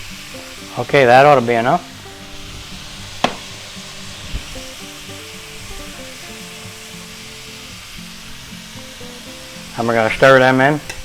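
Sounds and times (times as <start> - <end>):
background music: 0.0 - 11.0
food sizzling in oil: 0.0 - 11.0.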